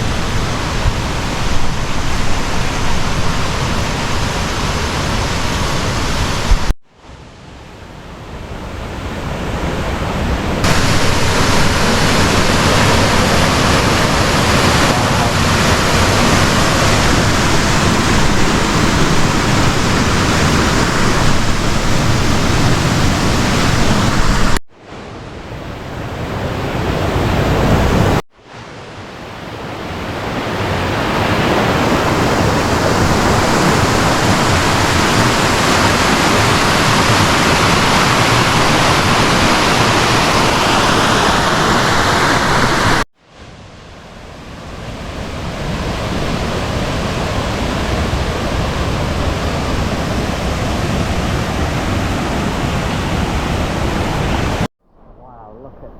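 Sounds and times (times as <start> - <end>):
waterfall rushing water: 0.0 - 54.7.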